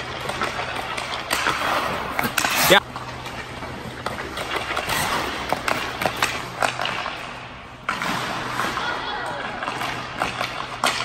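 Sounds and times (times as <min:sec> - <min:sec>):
skates scraping on ice: 0:00.0 - 0:11.0
stick hitting puck: 0:00.0 - 0:11.0.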